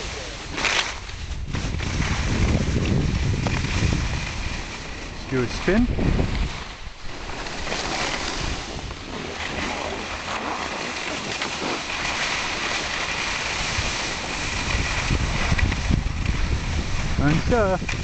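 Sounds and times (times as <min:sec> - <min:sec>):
skis hissing and scraping on snow: 0:00.0 - 0:18.0
wind on microphone: 0:00.0 - 0:18.0.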